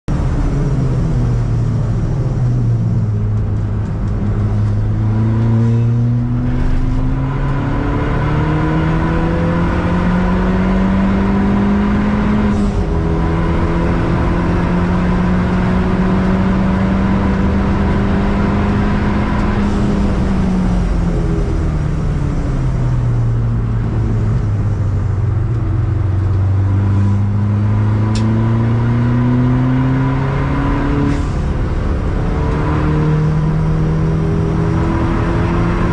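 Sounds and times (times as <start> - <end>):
car engine revving: 0.1 - 35.9.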